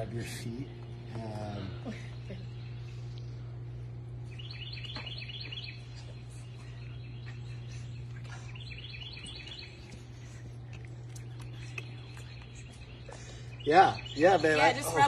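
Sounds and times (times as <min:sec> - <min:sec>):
songbird chirping: 0:00.0 - 0:15.0
steady low hum: 0:00.0 - 0:15.0.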